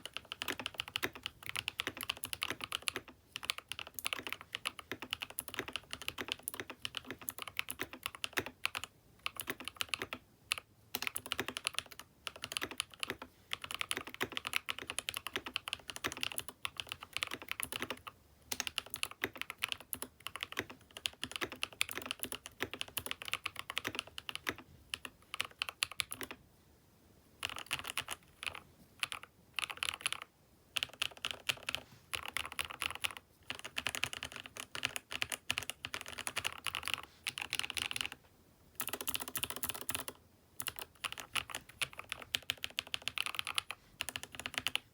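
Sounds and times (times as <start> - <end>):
mechanical keyboard typing: 0.0 - 26.4, 27.4 - 38.2, 38.8 - 44.9.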